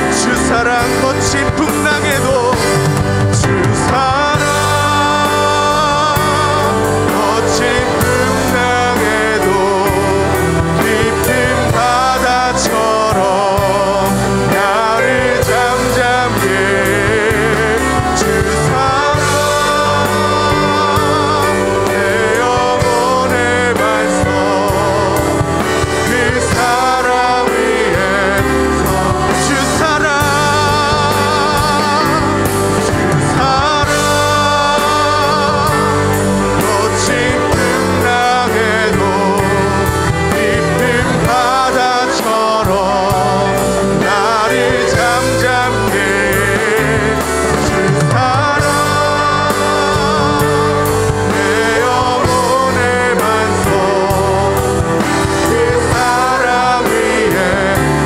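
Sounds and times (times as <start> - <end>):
band with guitar and keyboard: 0.0 - 58.0
man singing: 0.0 - 58.0.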